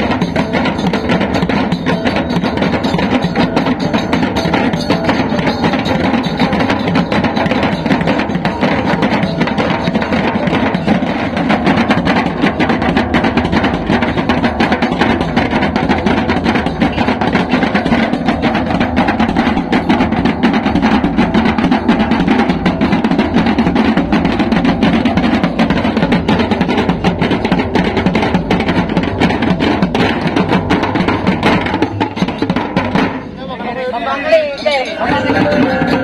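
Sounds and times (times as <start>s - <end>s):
steady ringing tones: 0.0s - 36.0s
wooden drums beaten with sticks: 0.0s - 36.0s.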